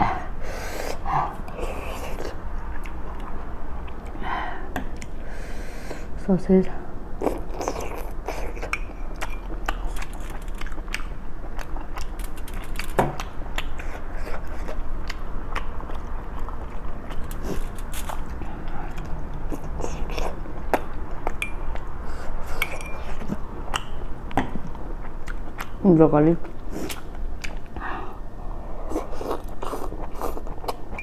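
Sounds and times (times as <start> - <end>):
person chewing food: 0.0 - 25.8, 26.4 - 31.0.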